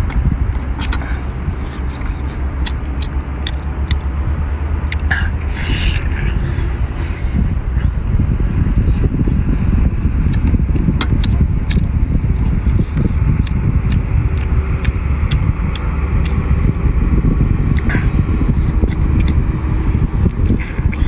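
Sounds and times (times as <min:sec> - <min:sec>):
steady low rumble: 0:00.0 - 0:21.0
chewing clicks and smacks: 0:00.1 - 0:04.2, 0:04.8 - 0:16.8, 0:17.7 - 0:21.0.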